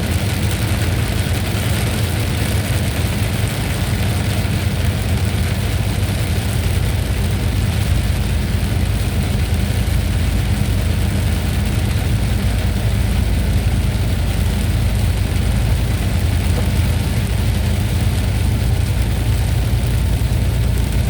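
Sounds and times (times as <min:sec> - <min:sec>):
heavy low rumble: 0:00.0 - 0:21.0.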